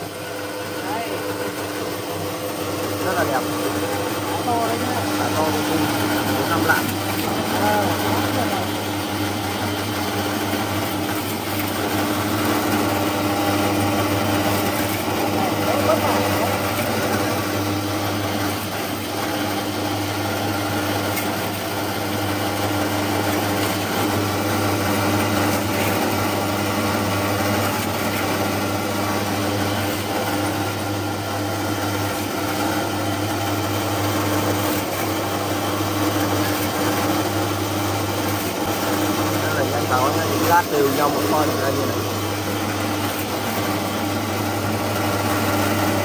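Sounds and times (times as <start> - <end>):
fish-cutting machine humming: 0.0 - 46.0.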